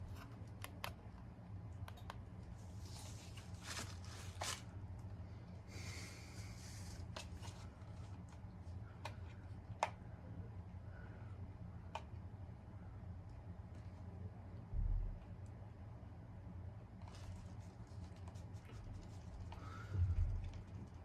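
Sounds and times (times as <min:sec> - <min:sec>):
ceiling fan humming: 0:00.0 - 0:21.0.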